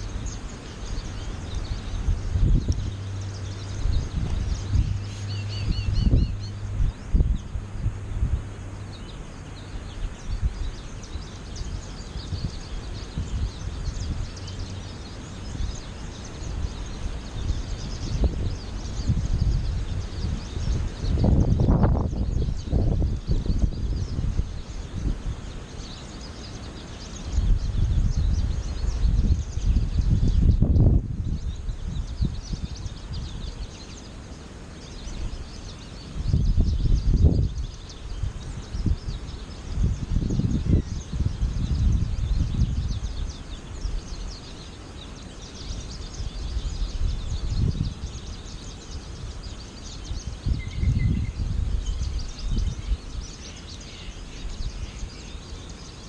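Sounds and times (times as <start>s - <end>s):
goldfinches chirping: 0.0s - 56.0s
wind rumbling on microphone: 0.0s - 56.0s.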